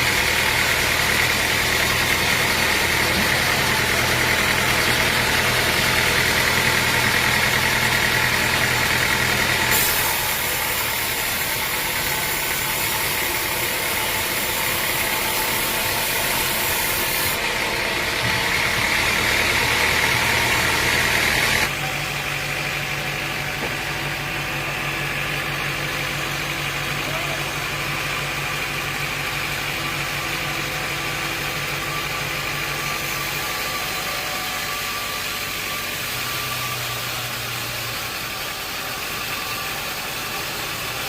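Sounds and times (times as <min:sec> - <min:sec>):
sawmill machinery humming: 0:00.0 - 0:41.0.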